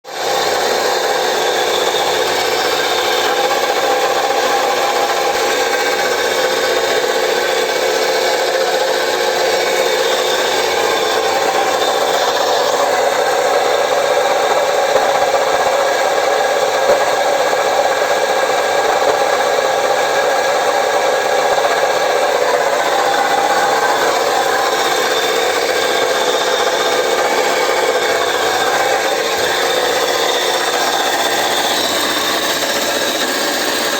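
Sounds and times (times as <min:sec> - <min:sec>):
alternator whining: 0:00.0 - 0:33.9.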